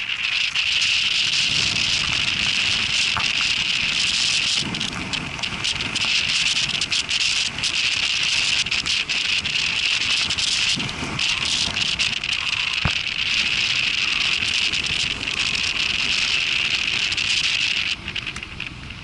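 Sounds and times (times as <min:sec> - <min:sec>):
rain ticking on microphone: 0:00.0 - 0:19.0
wind buffeting microphone: 0:00.0 - 0:19.0.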